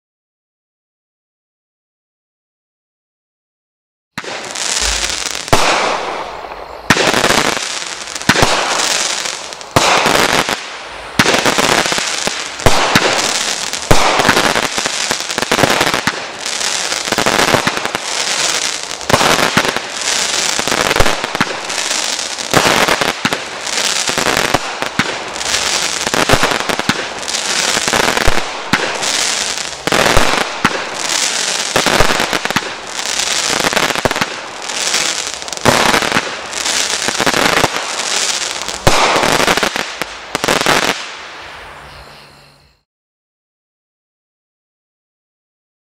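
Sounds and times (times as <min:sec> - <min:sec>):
firework shots banging and hissing: 0:04.2 - 0:42.5.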